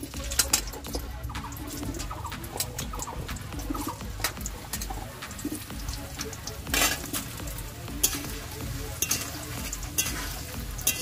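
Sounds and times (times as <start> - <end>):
potatoes sizzling in hot oil: 0.0 - 11.0
metal ladle scraping a pan: 1.8 - 11.0.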